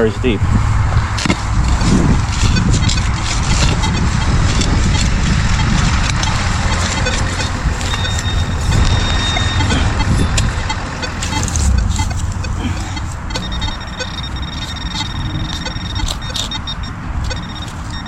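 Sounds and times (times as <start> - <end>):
low rumble: 0.4 - 17.6.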